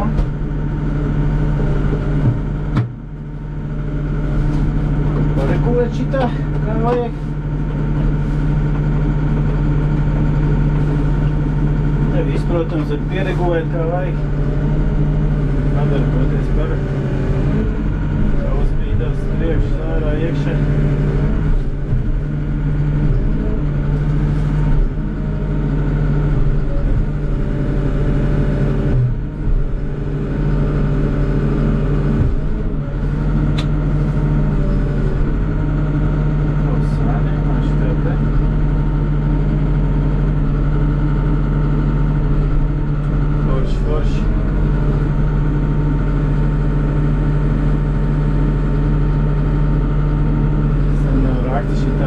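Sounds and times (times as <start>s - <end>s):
excavator diesel engine and hydraulics: 0.0s - 52.0s.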